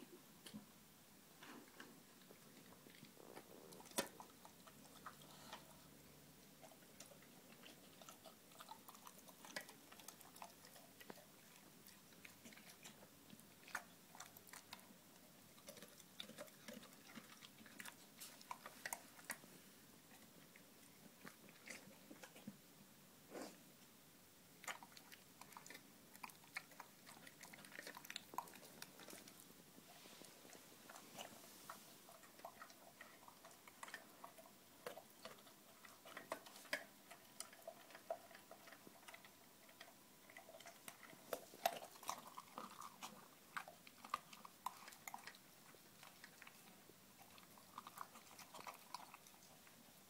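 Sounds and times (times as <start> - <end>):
dog chewing and crunching: 1.4 - 22.6, 24.5 - 50.0.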